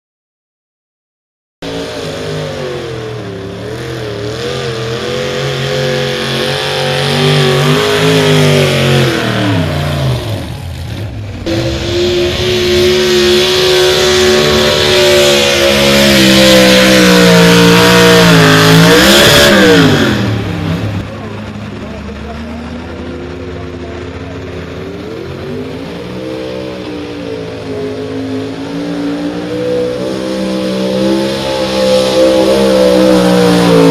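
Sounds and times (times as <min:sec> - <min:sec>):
pulling truck engine at full throttle: 0:01.6 - 0:33.9.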